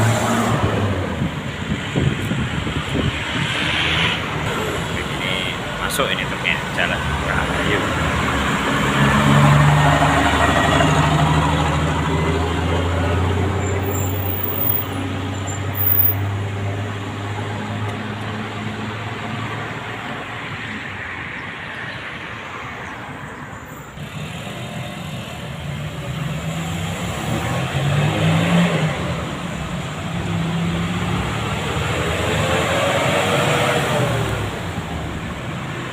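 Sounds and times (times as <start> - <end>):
road traffic noise: 0.0 - 35.9.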